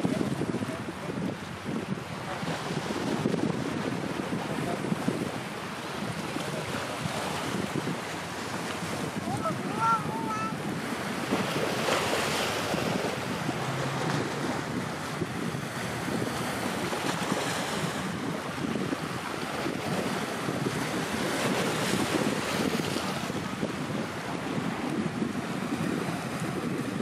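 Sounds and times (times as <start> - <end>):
choppy sea water: 0.0 - 27.0
wind buffeting microphone: 0.0 - 27.0.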